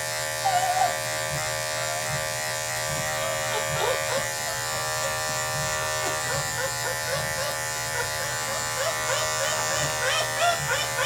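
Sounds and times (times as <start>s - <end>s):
electric clippers buzzing: 0.0s - 11.0s.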